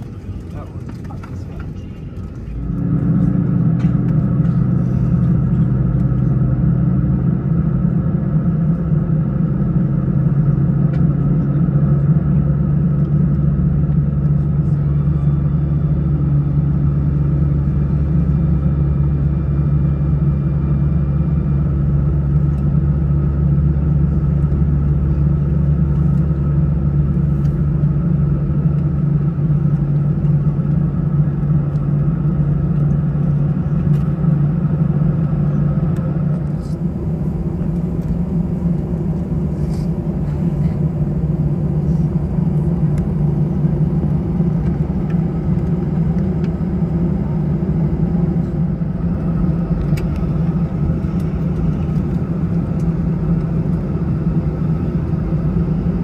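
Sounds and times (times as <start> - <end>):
airliner cabin engine rumble: 0.0 - 56.0
deeper rumble: 0.0 - 56.0.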